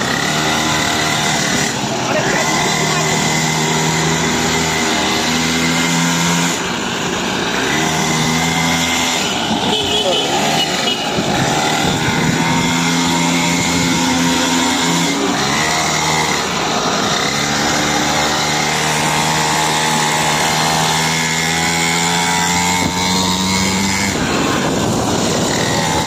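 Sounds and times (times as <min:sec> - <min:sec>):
small petrol engine buzzing: 0:00.0 - 0:26.0.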